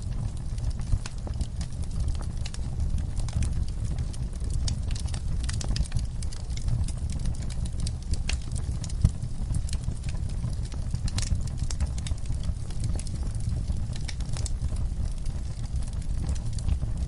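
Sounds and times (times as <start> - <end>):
fire rumbling in fireplace: 0.0 - 17.0
wood crackling and popping: 0.0 - 17.0.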